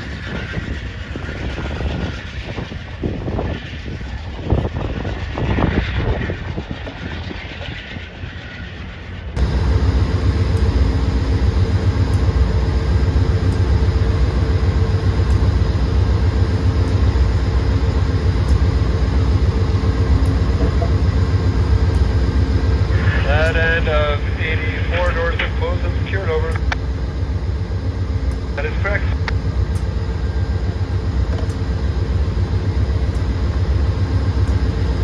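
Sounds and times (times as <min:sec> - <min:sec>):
constant hum: 0:00.0 - 0:35.0
diesel locomotive idling: 0:00.0 - 0:35.0
distant train approaching: 0:00.0 - 0:35.0.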